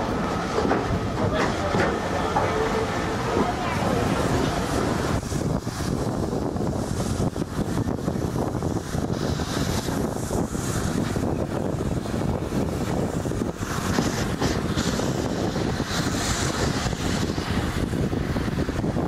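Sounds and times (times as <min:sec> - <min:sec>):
railway carriage running noise: 0:00.0 - 0:19.0
wind buffeting microphone: 0:00.0 - 0:19.0.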